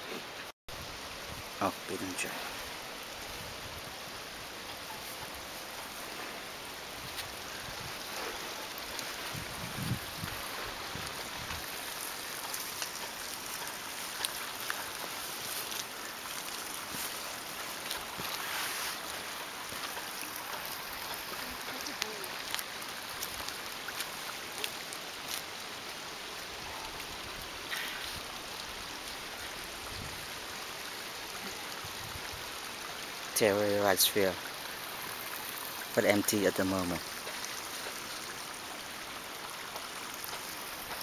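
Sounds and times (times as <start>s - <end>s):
rain hissing: 0.0s - 41.0s
raindrops ticking: 4.2s - 31.6s, 32.7s - 41.0s.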